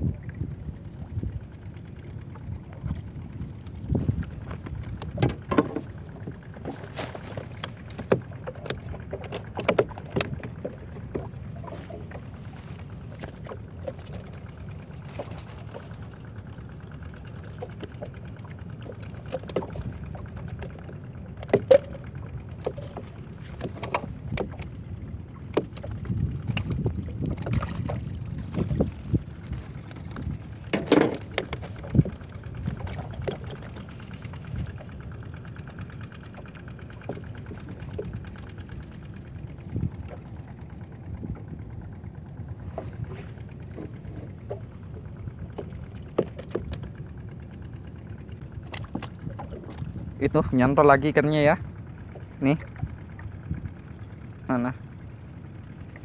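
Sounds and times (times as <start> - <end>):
water lapping against wooden boat: 0.0 - 56.0.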